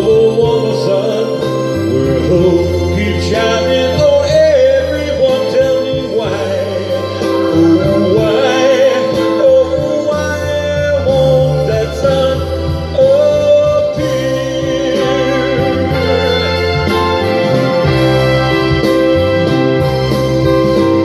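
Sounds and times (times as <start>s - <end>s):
instrumental accompaniment with bass: 0.0s - 21.0s.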